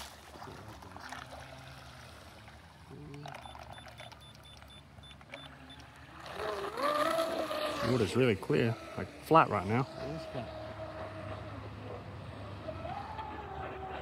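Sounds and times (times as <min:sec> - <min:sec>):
rc boat motor humming: 0:00.0 - 0:14.0.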